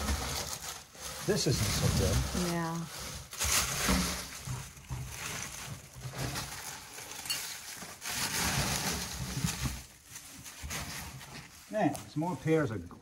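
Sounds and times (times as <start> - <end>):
dry leaves rustling and scraping: 0.0 - 12.7.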